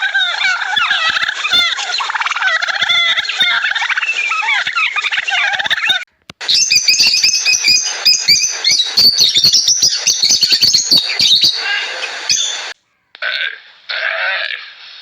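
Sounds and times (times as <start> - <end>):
birds chirping and squawking: 0.0 - 13.2.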